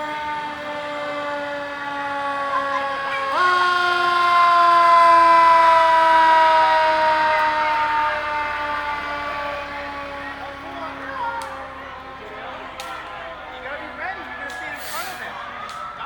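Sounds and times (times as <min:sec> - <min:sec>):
fire engine siren: 0:00.0 - 0:16.0.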